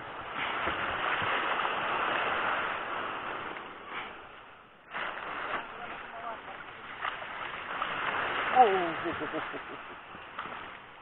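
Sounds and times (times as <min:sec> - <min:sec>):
surf washing around boat hull: 0:00.0 - 0:11.0.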